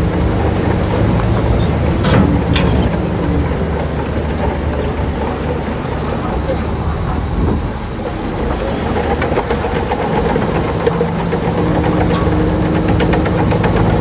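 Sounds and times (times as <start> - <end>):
clanks and knocks: 0.0 - 14.0
heavy diesel engine running: 0.0 - 14.0.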